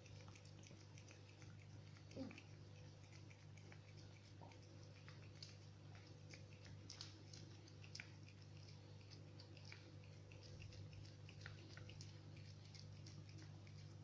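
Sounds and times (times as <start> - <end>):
cat chewing: 0.0 - 14.0.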